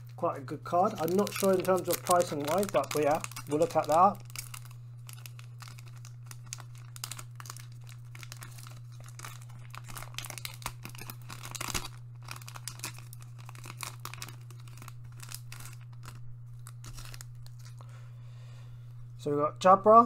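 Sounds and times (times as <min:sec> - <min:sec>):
foil wrapper crinkling and tearing: 0:00.0 - 0:17.9
steady low hum: 0:00.0 - 0:20.0.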